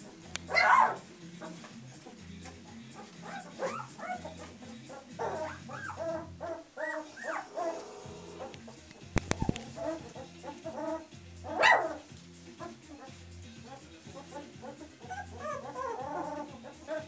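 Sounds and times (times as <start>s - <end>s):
puppies yipping and whining: 0.4s - 8.6s, 9.4s - 17.0s.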